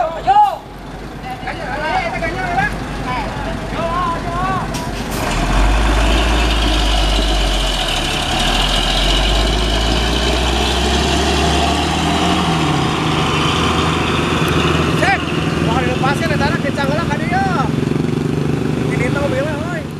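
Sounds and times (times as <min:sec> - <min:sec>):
truck diesel engine rumbling: 0:00.0 - 0:19.9.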